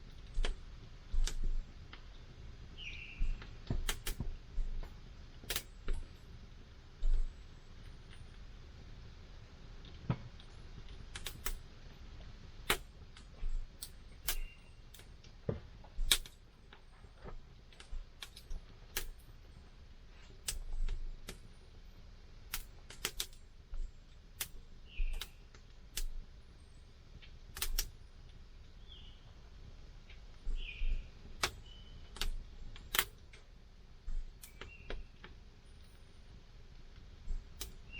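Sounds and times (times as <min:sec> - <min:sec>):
low steady fire hiss: 0:00.0 - 0:37.9.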